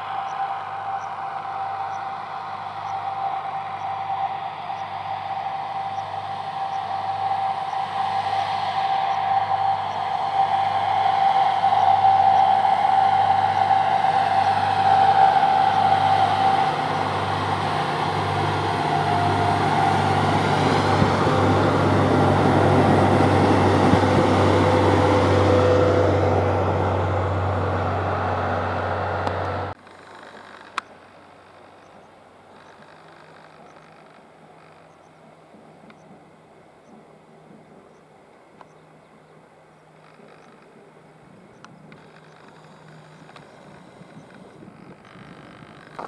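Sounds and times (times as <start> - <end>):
rail machine engines droning: 0.0 - 46.0.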